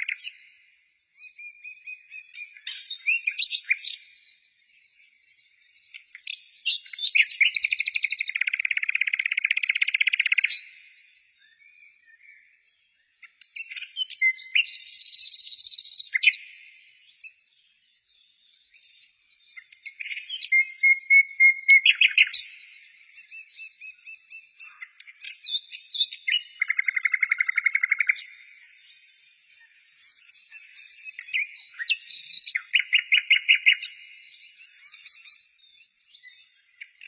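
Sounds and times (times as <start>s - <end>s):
bird chirping and trilling: 1.2s - 4.4s, 5.8s - 17.5s, 18.2s - 37.0s.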